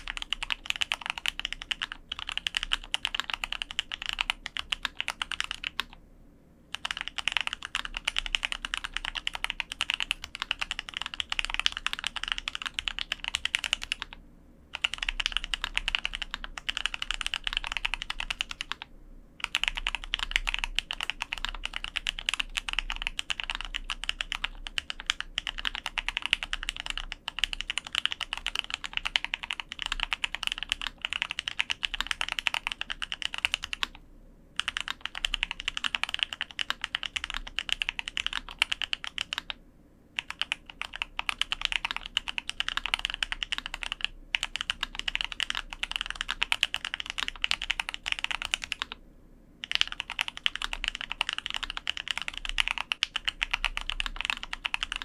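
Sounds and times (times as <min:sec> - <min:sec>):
mechanical keyboard typing: 0:00.0 - 0:06.0, 0:06.7 - 0:18.8, 0:19.4 - 0:34.0, 0:34.6 - 0:39.6, 0:40.2 - 0:49.0, 0:49.6 - 0:55.0.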